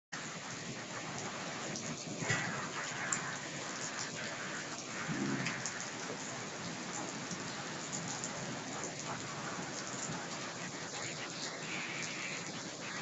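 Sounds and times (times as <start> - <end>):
heavy rain on wet street: 0.2 - 13.0.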